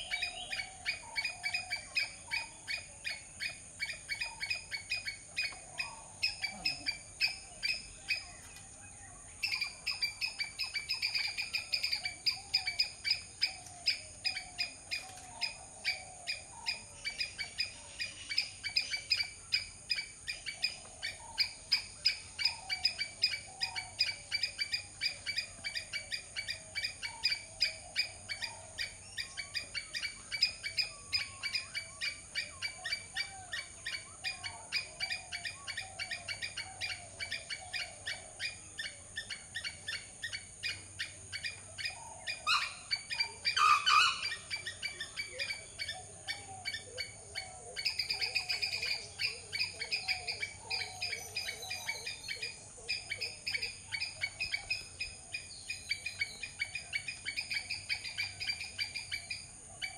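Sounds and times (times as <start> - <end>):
squirrel chirping: 0.0 - 8.3, 9.4 - 47.2, 47.8 - 59.9.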